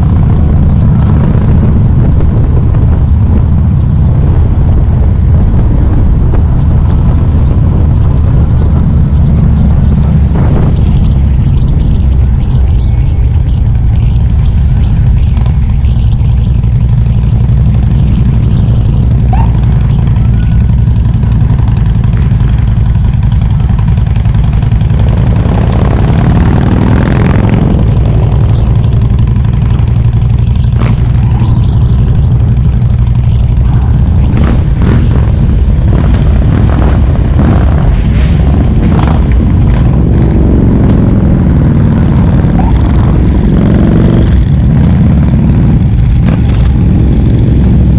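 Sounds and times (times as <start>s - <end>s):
motorcycle engine rumbling: 0.0s - 47.9s.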